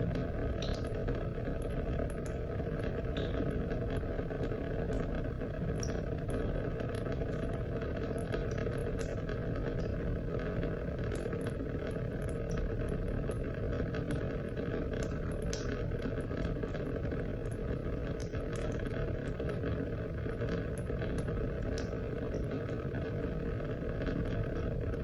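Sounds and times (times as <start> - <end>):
raindrop ticks: 0.0 - 23.4.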